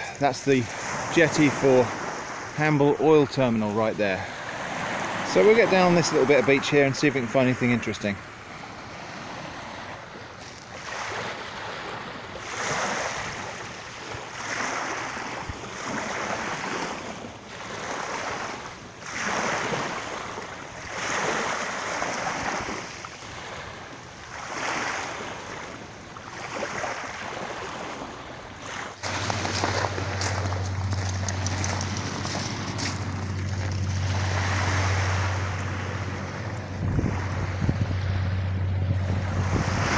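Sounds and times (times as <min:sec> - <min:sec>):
waves washing onto pebbles: 0:00.0 - 0:06.8, 0:08.5 - 0:38.6, 0:39.2 - 0:39.9.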